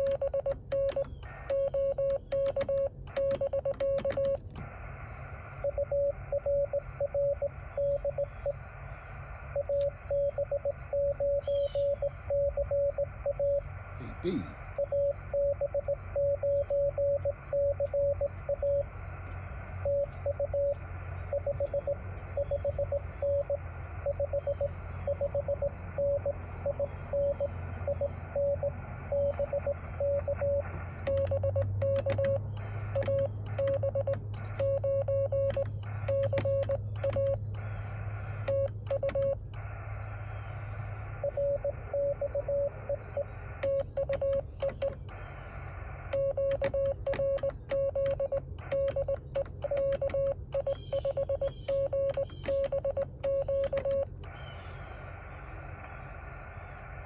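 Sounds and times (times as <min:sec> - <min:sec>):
morse code tone: 0:00.0 - 0:04.4, 0:05.4 - 0:19.0, 0:19.8 - 0:40.1, 0:41.2 - 0:45.2, 0:46.0 - 0:54.3
low hum: 0:00.0 - 0:57.0
receiver hiss: 0:00.0 - 0:57.0
static crackles: 0:00.0 - 0:57.0.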